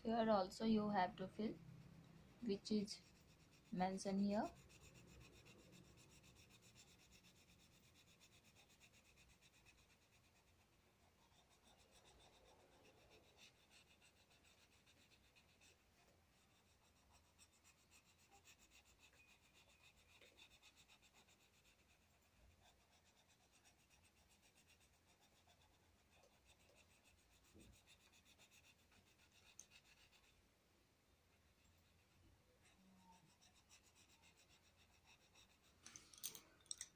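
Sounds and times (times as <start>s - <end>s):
pencil scratching on paper: 0.0s - 30.5s, 31.3s - 35.9s.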